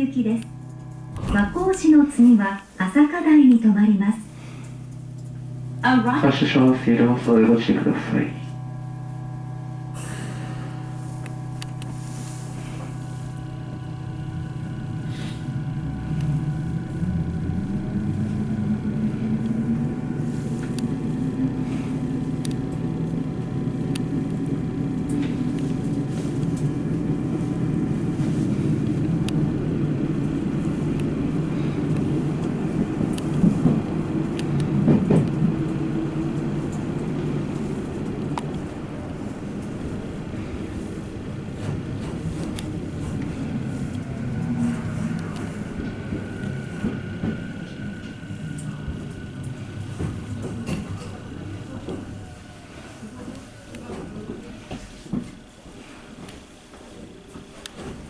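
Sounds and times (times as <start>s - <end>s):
train traction motor whine rising: 0.0s - 56.4s
low train running rumble: 0.0s - 58.0s.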